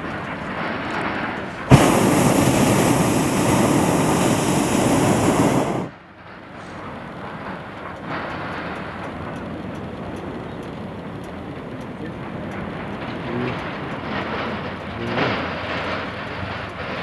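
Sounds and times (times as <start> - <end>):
propane burner blast: 0.0 - 17.0.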